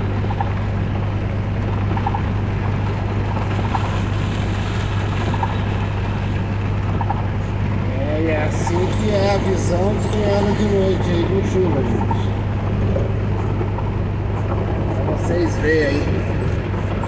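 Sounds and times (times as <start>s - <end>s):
heavy rain and tyre noise: 0.0s - 17.0s
vehicle engine drone: 0.0s - 17.0s.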